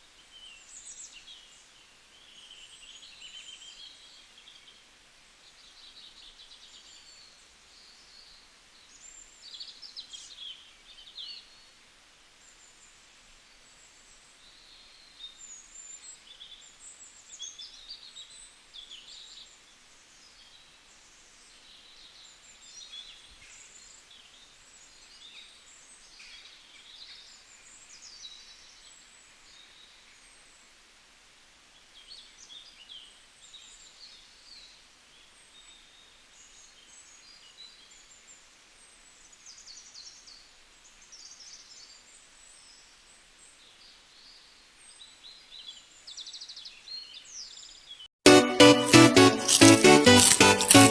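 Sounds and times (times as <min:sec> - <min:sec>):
steady background hiss: 0:00.0 - 0:48.1.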